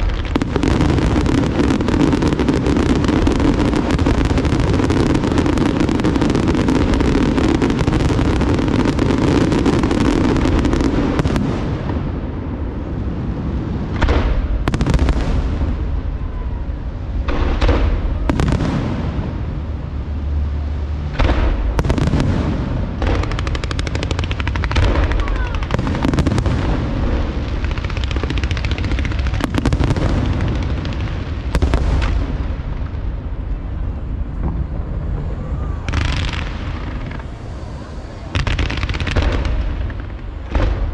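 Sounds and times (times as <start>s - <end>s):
fireworks rumble: 0.0s - 40.9s.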